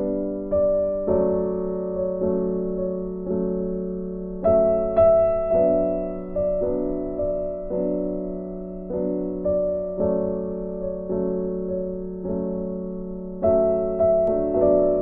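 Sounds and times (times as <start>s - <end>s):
soft piano notes: 0.0s - 15.0s.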